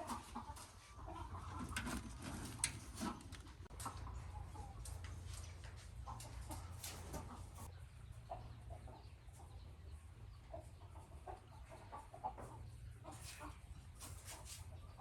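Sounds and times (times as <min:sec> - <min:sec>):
chickens clucking softly: 0:00.0 - 0:15.0.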